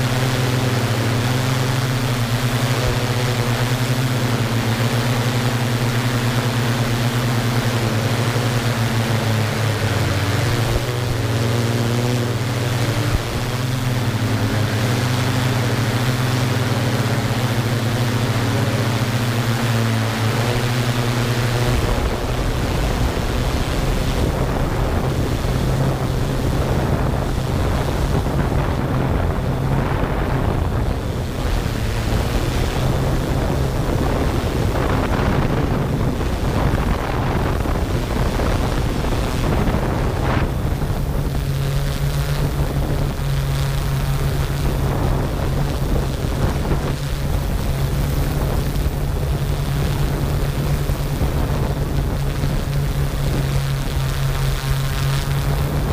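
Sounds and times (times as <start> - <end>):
quadcopter motors humming: 0.0 - 55.9
wind on microphone: 0.0 - 55.9.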